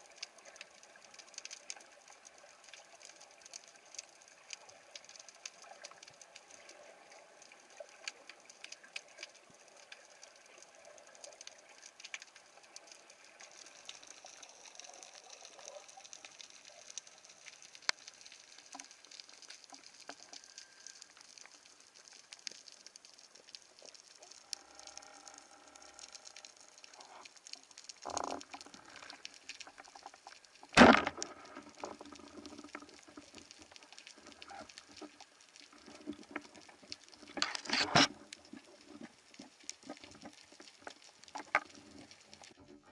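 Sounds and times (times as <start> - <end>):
underwater crackling clicks: 0.0 - 42.7.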